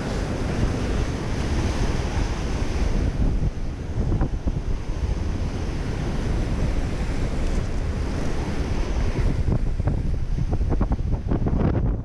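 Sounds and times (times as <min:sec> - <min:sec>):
sea surf breaking on reef: 0:00.0 - 0:11.7
wind buffeting microphone: 0:00.0 - 0:12.0.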